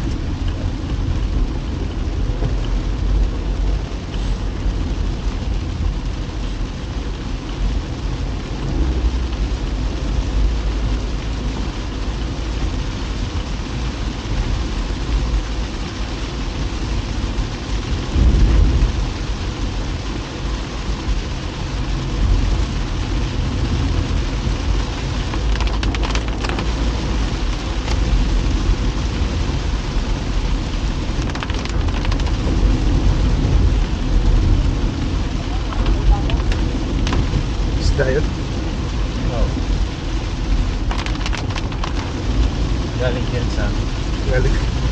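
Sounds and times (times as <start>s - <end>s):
rain on a moving car: 0.0s - 44.9s
tyres on wet road: 0.0s - 44.9s.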